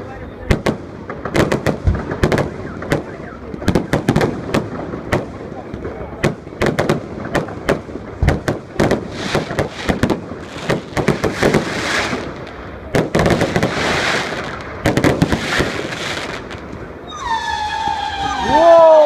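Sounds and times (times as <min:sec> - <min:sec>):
fireworks crackling and hissing: 0:00.0 - 0:19.0
firework bangs: 0:00.4 - 0:19.0.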